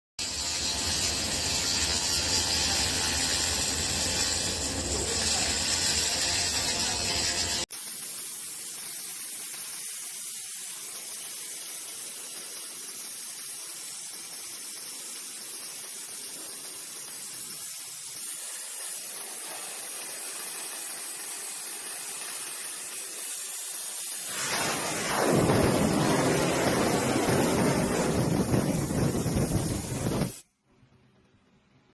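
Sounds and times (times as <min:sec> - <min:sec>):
laser welding machine hissing: 0:00.2 - 0:30.4.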